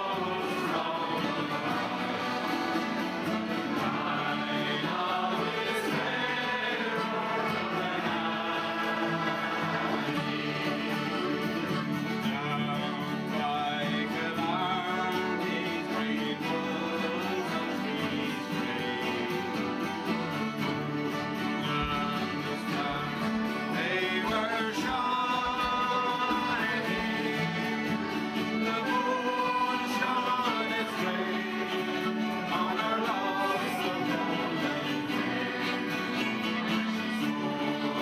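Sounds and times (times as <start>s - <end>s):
accordion chords: 0.0s - 38.0s
acoustic guitar: 0.0s - 38.0s
man singing: 0.0s - 38.0s.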